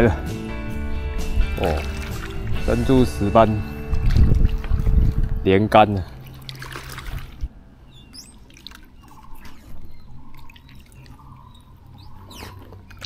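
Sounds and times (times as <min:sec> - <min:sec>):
water dripping and splashing: 0:01.4 - 0:13.0.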